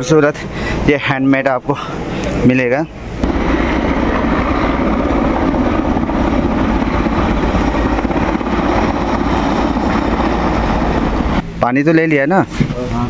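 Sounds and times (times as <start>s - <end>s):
helicopter flying low overhead: 0.0s - 13.0s.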